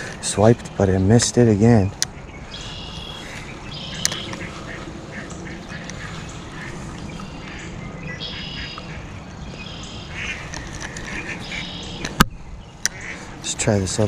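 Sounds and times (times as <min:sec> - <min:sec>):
short bird calls: 0:02.1 - 0:13.4.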